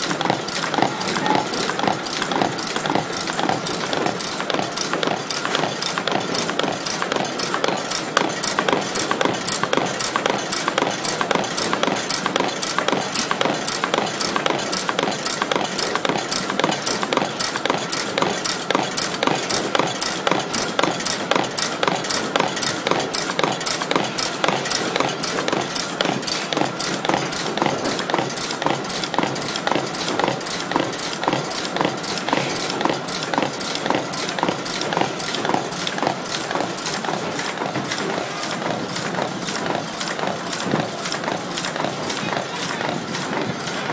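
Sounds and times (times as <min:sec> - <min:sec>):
folding machine running: 0:00.0 - 0:43.9.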